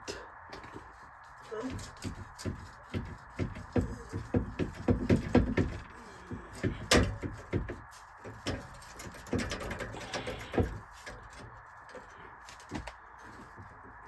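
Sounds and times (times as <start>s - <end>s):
exhaust pipe knocks and clanks: 1.6s - 14.0s.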